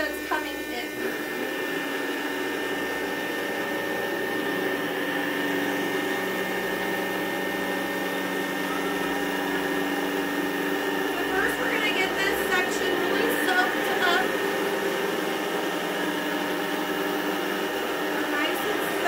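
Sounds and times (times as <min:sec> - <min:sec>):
vacuum motor whining: 0:00.0 - 0:19.0.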